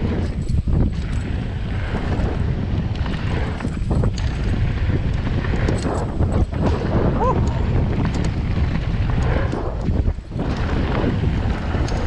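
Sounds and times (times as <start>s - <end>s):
bike rumbling and rattling: 0.0s - 12.0s
wind buffeting microphone: 0.0s - 12.0s.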